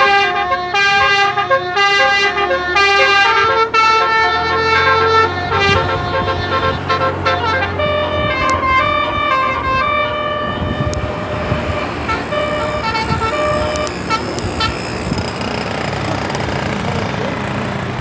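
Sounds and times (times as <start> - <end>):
musical air horn playing a tune: 0.0 - 15.2
engine rumble: 0.0 - 18.0.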